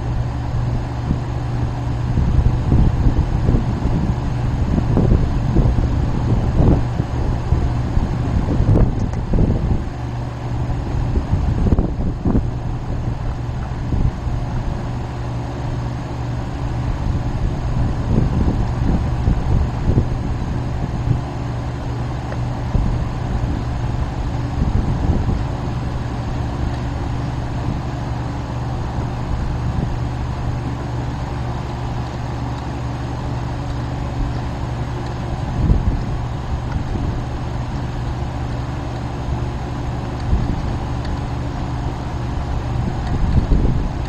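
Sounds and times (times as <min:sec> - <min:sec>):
vehicle engine hum: 0:00.0 - 0:44.0.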